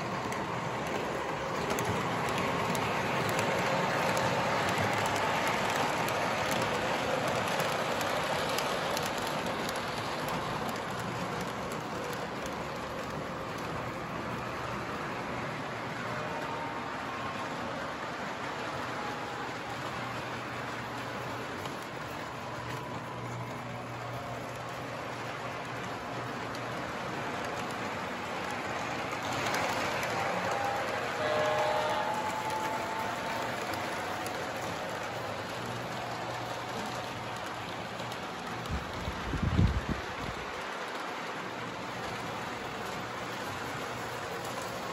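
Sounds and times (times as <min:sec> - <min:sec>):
model train whirring: 0:00.0 - 0:44.9.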